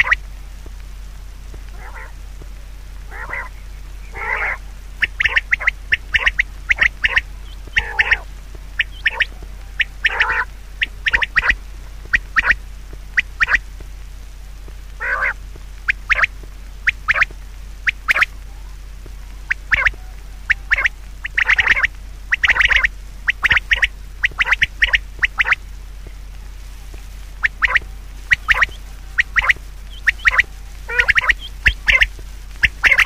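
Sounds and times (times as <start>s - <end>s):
birds calling: 0.0s - 0.3s, 1.5s - 13.8s, 14.9s - 33.0s.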